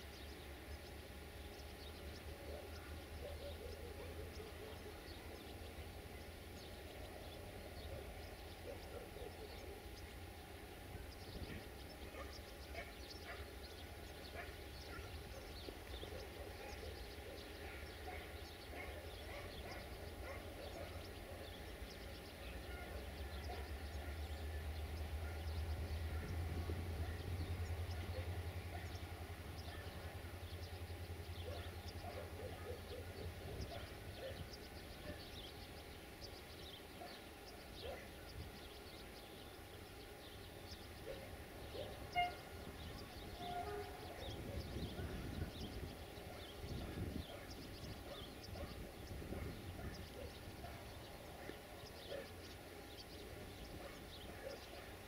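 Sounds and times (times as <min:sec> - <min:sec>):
distant locomotive engine rumbling: 0:00.0 - 0:55.0.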